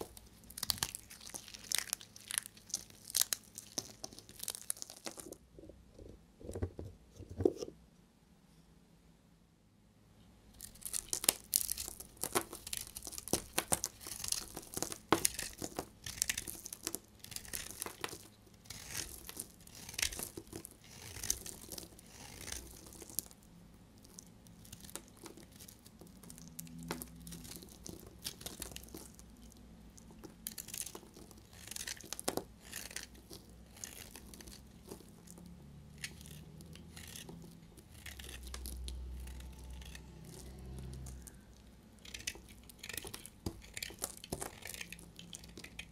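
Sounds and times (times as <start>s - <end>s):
knife blade shaving soap: 0.0s - 5.3s, 10.6s - 23.4s, 24.0s - 45.9s.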